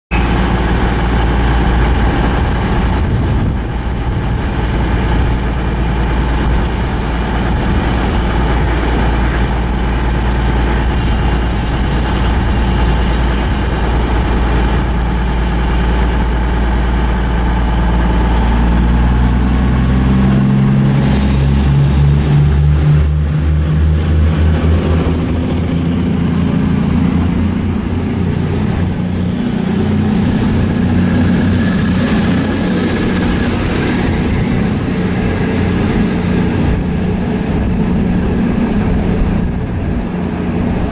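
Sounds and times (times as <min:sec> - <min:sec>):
diesel train engine rumbling: 0:00.1 - 0:40.9.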